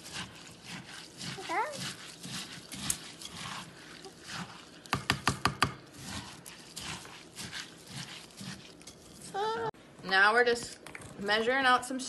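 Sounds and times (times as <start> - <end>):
seed mixture stirred in bowl: 0.0 - 11.7.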